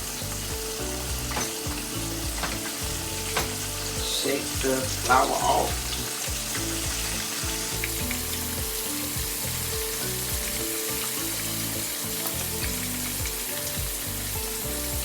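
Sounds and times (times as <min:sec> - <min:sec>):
chicken sizzling in frying oil: 0:00.0 - 0:15.0.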